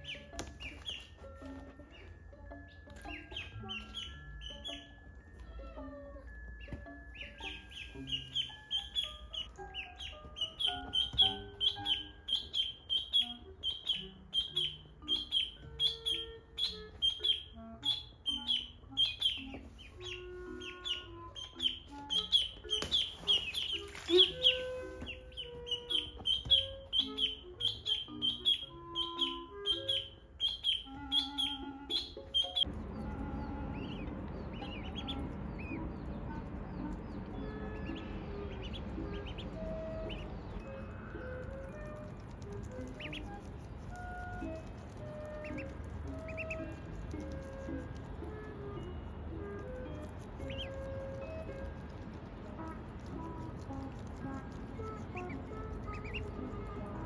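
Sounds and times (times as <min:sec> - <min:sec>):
ducklings peeping: 0:00.0 - 0:57.0
light background music: 0:00.0 - 0:57.0.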